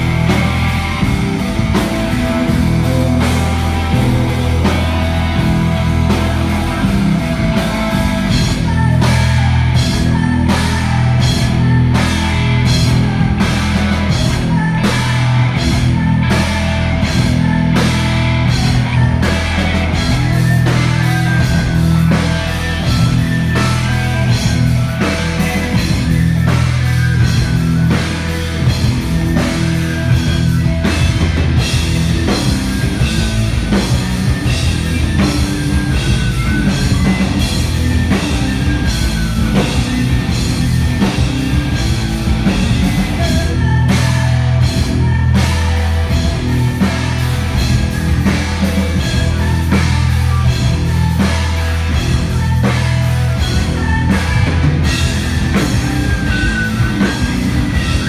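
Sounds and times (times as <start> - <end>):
metal band playing live: 0.0 - 58.0.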